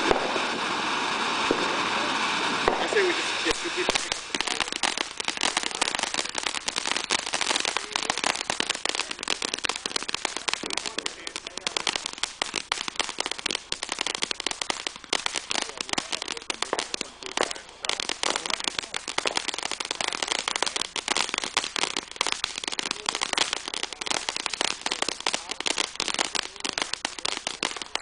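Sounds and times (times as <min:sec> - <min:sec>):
firework crackling and popping: 0:00.0 - 0:28.0.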